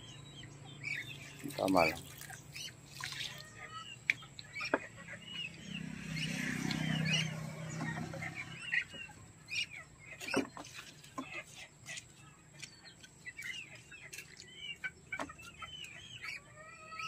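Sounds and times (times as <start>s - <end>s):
small birds chirping: 0.0s - 17.0s
chickens clucking: 0.7s - 5.7s, 6.3s - 17.0s.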